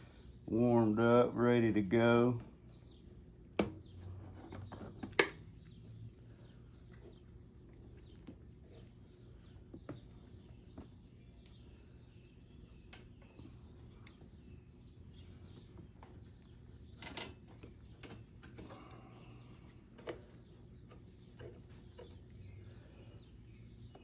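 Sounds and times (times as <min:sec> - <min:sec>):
birds chirping faintly: 0:00.0 - 0:24.0
low steady hum: 0:00.0 - 0:24.0.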